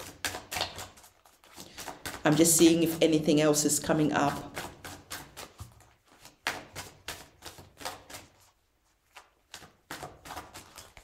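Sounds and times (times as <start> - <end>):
cards being shuffled: 0.0 - 3.4, 4.3 - 11.0.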